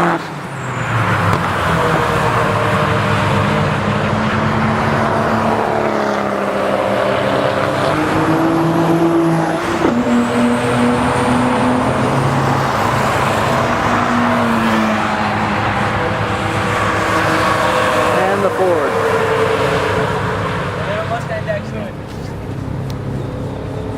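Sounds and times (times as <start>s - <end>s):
car passing by: 0.0s - 23.9s
race car engines: 0.0s - 23.9s.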